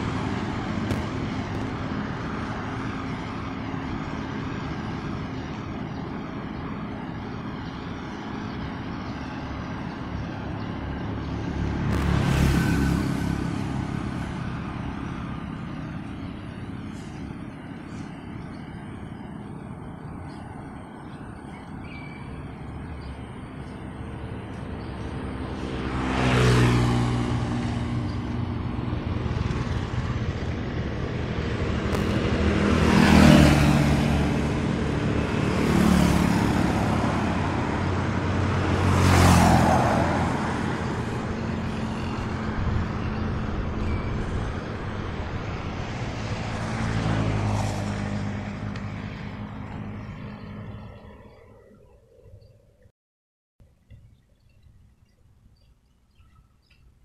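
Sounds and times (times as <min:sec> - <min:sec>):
traffic hum: 0:00.0 - 0:52.9
vehicles passing by: 0:00.0 - 0:52.9.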